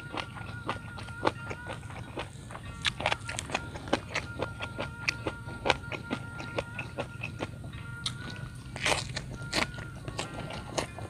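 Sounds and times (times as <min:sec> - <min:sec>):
chewing crunchy vegetables: 0:00.0 - 0:11.0.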